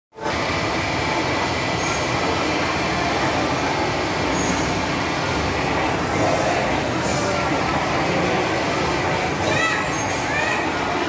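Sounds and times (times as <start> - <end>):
arcade machines: 0.2 - 11.0
crowd noise: 0.2 - 11.0
kiddie rides: 0.2 - 11.0.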